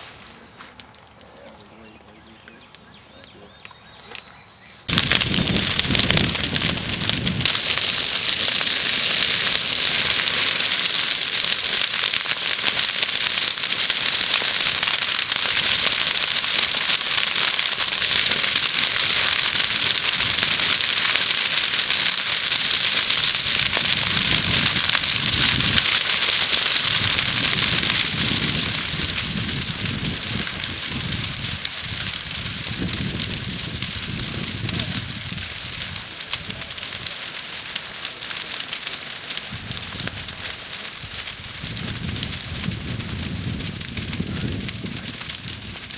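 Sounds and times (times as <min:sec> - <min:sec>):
grass fire crackling and hissing: 0:00.0 - 0:45.9.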